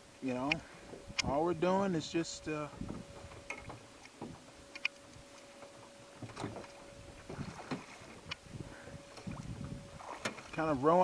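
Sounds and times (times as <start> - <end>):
light water noise: 0.0 - 11.0.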